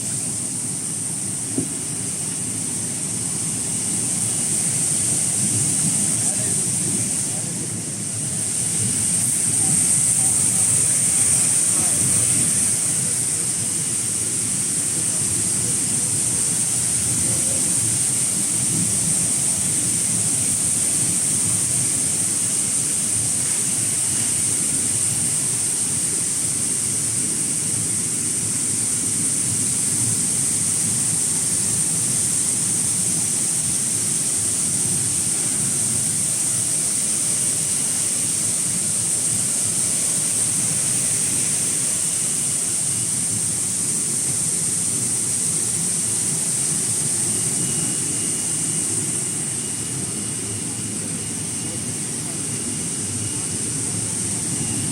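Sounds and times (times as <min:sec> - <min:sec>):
constant high hiss: 0:00.0 - 0:54.9.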